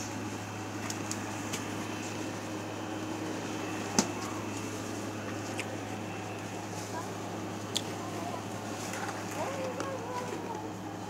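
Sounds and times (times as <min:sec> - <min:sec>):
window fan humming: 0:00.0 - 0:11.0.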